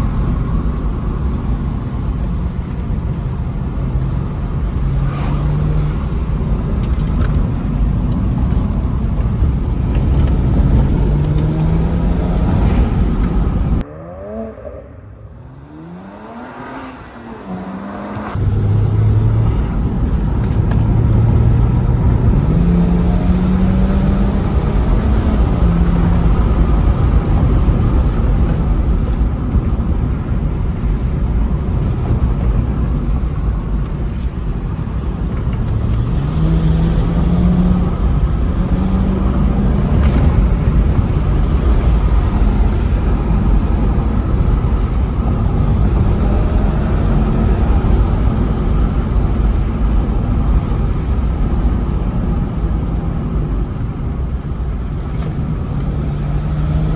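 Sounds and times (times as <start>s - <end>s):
car engine accelerating through gears: 0.0s - 56.9s
road and wind rumble: 0.0s - 56.9s.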